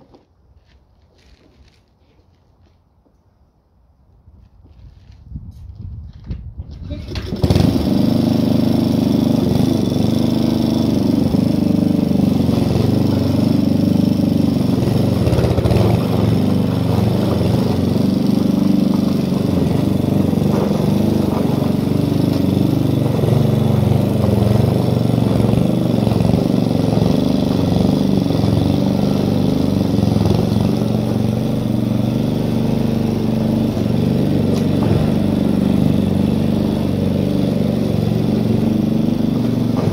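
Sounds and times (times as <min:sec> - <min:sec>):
lawn mower pull-start: 0:00.0 - 0:02.8, 0:06.2 - 0:39.9
lawn mower engine running: 0:06.7 - 0:39.9.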